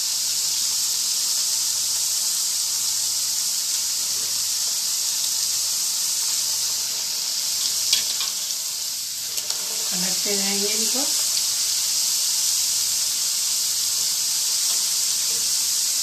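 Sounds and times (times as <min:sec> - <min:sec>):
potatoes sizzling in hot oil: 0:00.0 - 0:16.0.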